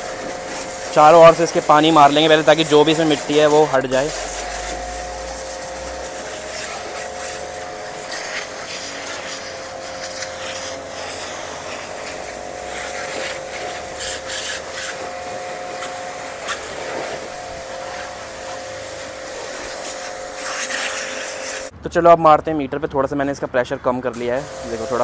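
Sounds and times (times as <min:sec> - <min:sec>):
pressure washer whining: 0:00.0 - 0:21.7, 0:24.1 - 0:25.0
water jet hissing: 0:00.0 - 0:21.7, 0:24.1 - 0:25.0.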